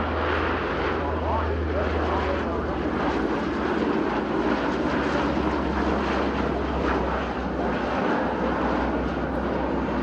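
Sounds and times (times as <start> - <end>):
turboprop aircraft passing low: 0.0 - 10.0.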